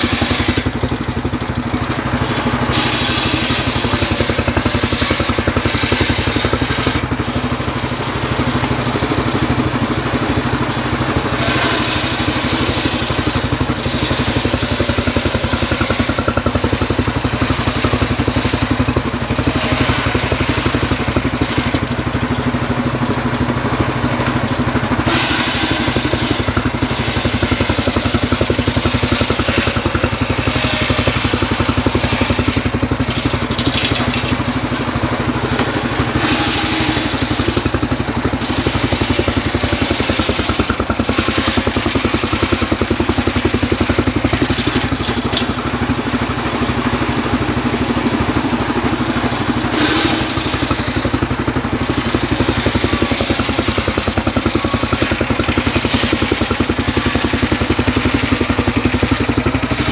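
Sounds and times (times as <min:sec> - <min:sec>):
circular saw blade cutting log: 0:00.0 - 0:59.9
engine chugging: 0:00.0 - 0:59.9.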